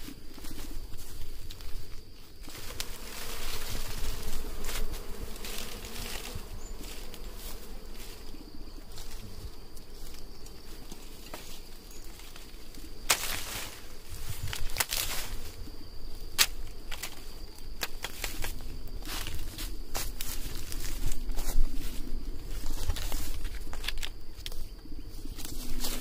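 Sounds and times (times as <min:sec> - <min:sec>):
leaves and twigs rustling: 0:00.0 - 0:26.0
bees buzzing: 0:01.7 - 0:26.0.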